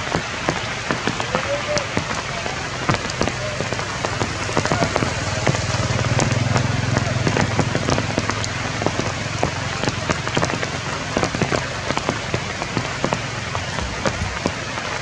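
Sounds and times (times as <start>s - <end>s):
raindrops striking close by: 0.0s - 15.0s
steady rain hiss: 0.0s - 15.0s.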